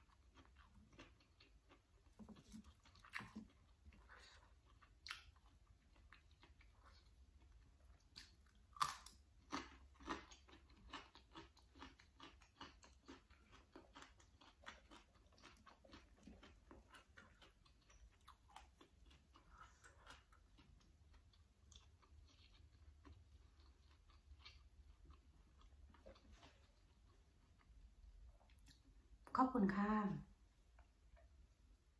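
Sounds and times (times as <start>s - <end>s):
chewing crunchy vegetable: 0.0s - 29.0s.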